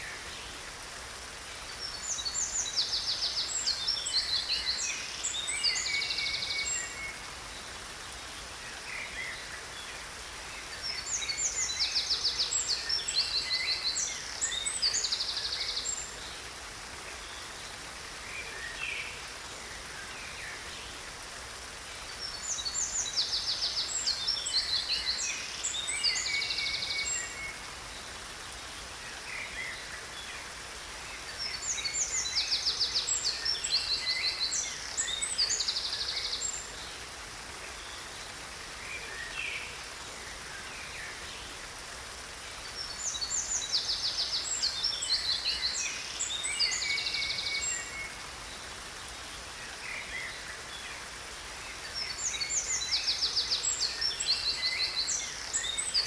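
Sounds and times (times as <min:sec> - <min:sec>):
falling water rushing: 0:00.0 - 0:56.0.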